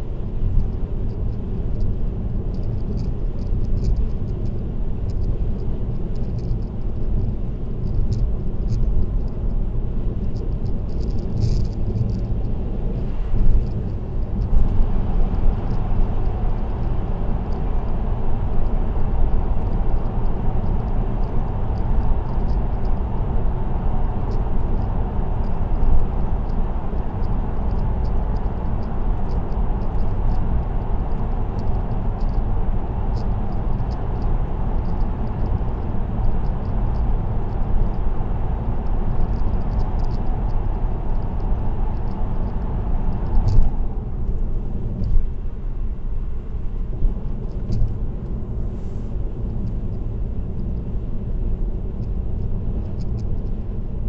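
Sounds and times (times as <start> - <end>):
car road and tyre noise: 0.0 - 54.0
light ticking rattles: 0.3 - 45.5, 46.4 - 54.0.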